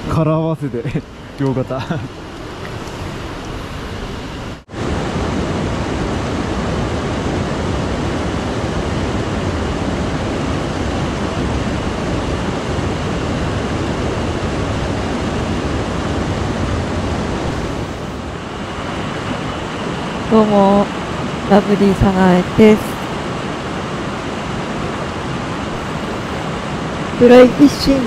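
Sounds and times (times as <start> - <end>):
stream water rushing: 1.0 - 28.0.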